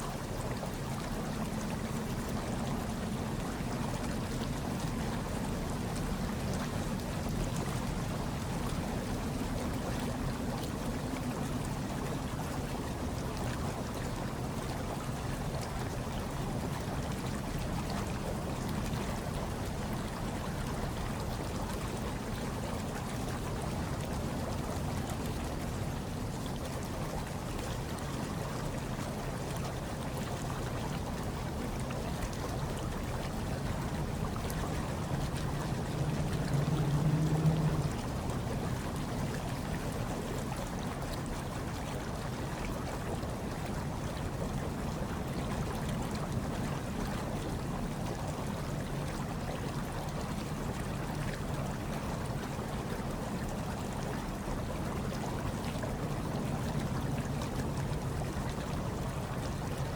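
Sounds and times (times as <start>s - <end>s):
hot tub water bubbling: 0.0s - 59.9s.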